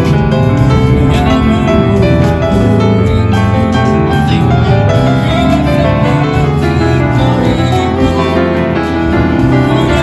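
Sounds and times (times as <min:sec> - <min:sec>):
drum kit: 0:00.0 - 0:10.0
keyboard: 0:00.0 - 0:10.0
saxophone: 0:00.0 - 0:10.0.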